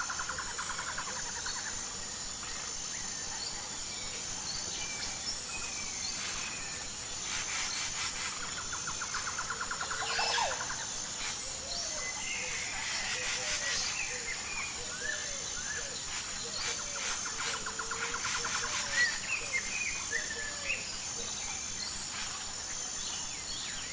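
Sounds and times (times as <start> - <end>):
insects droning: 0.0 - 23.9
wild birds chirping: 0.0 - 23.9.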